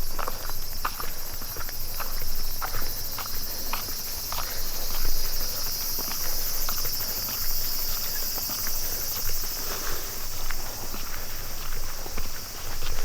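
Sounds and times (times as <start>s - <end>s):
footsteps walking: 0.0s - 13.0s
high-pitched insect chorus: 0.0s - 13.0s.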